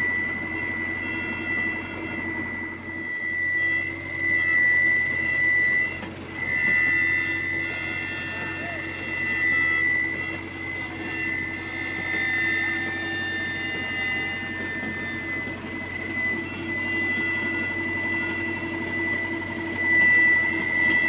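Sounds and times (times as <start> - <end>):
high-pitched whine: 0.0 - 21.0
paving machinery engine: 0.0 - 21.0.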